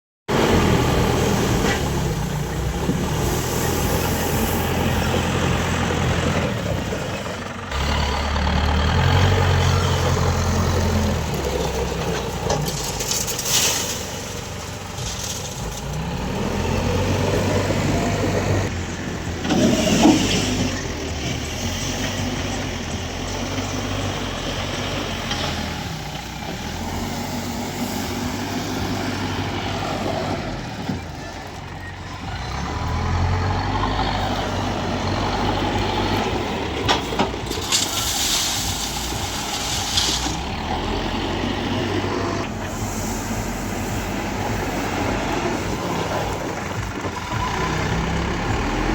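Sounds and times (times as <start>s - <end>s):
diesel engines revving: 0.3s - 48.9s.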